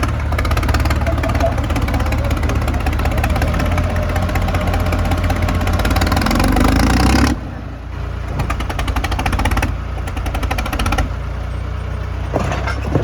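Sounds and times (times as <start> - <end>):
tractor engine working under load: 0.0 - 13.0.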